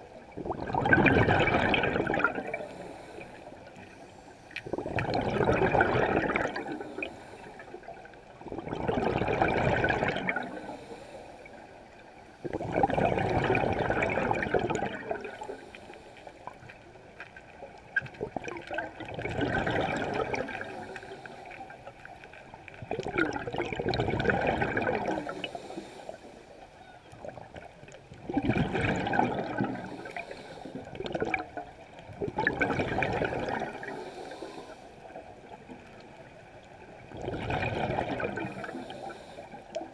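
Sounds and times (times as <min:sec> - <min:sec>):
diver's exhaled breath bubbling: 0:00.3 - 0:11.6, 0:12.4 - 0:16.6, 0:18.0 - 0:21.9, 0:22.9 - 0:26.3, 0:28.2 - 0:31.6, 0:32.2 - 0:35.8, 0:37.0 - 0:39.9.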